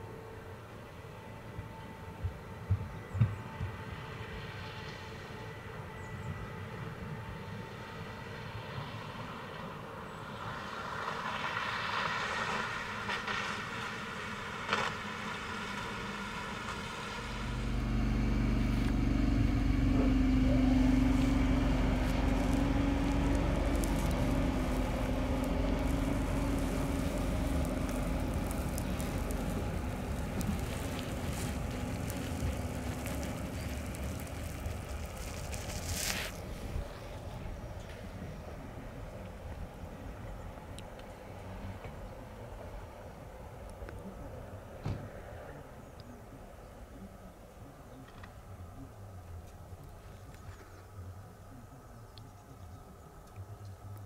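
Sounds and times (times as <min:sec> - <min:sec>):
electric train droning hum: 0:00.0 - 0:11.0, 0:12.7 - 0:49.9.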